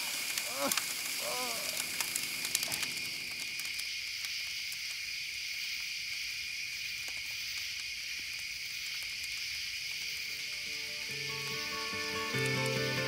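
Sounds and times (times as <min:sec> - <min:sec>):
campfire crackling: 0:00.0 - 0:13.0
night insects chorus: 0:00.0 - 0:13.0.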